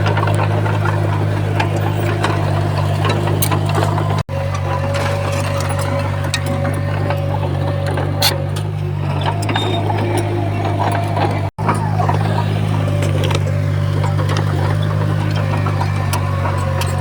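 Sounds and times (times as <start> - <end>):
bulldozer diesel engine running: 0.0 - 17.0
clanks and knocks of tracks and stone: 0.0 - 17.0.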